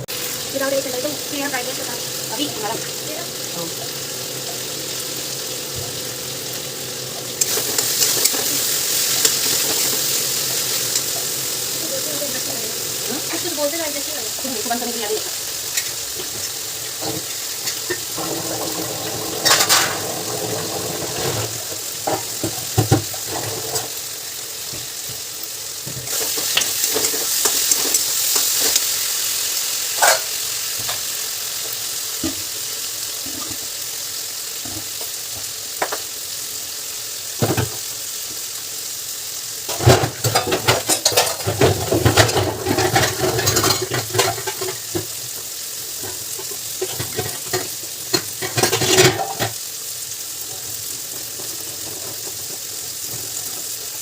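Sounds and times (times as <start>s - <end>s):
vegetables sizzling in a pan: 0.0s - 54.0s.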